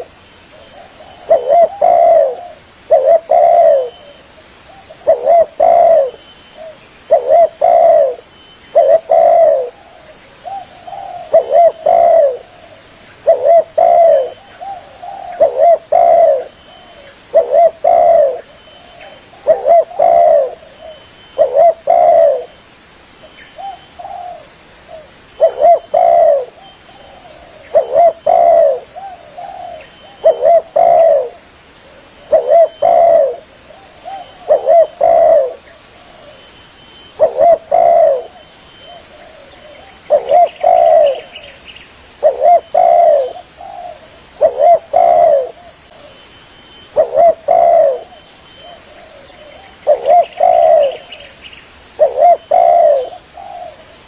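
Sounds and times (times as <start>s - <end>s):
dove cooing: 0.0s - 22.6s, 23.6s - 54.0s.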